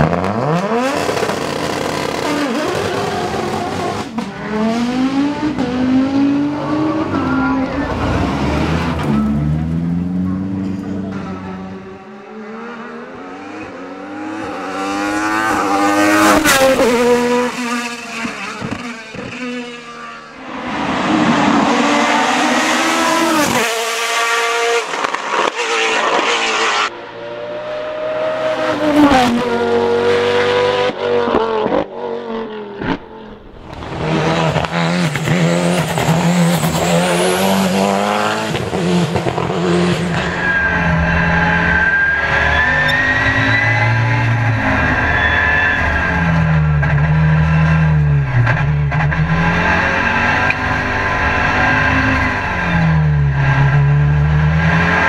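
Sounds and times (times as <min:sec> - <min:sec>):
racing cars accelerating past: 0:00.1 - 0:55.0.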